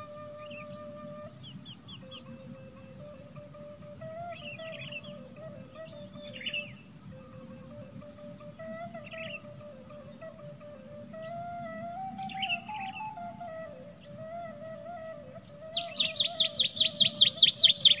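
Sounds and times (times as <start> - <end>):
birds chirping: 0.0 - 18.0
high insect drone: 0.0 - 18.0
soft instrumental music with flute: 0.0 - 18.0.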